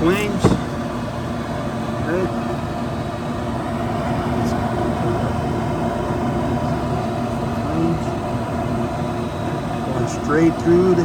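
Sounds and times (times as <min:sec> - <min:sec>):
gas furnace roaring: 0:00.0 - 0:11.0.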